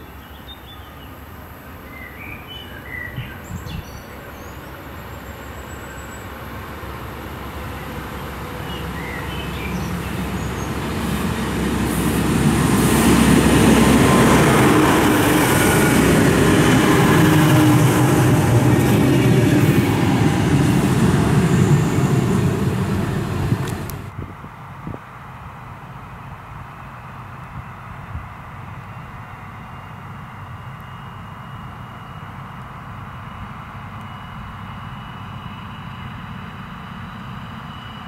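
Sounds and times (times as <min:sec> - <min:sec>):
diesel train engines: 0:00.0 - 0:38.0
train wheels rumbling on rails: 0:03.1 - 0:38.0.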